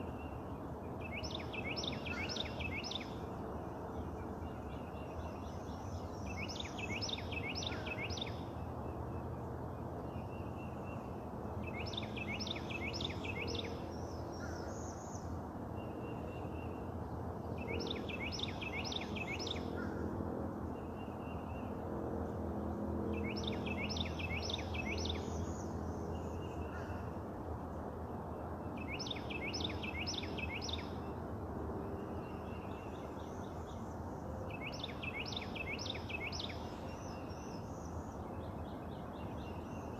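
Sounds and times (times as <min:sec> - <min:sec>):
songbird singing: 0:00.0 - 0:20.0, 0:20.7 - 0:21.9, 0:23.1 - 0:27.2, 0:28.3 - 0:31.2, 0:31.8 - 0:39.9
steady background hum: 0:00.0 - 0:39.9.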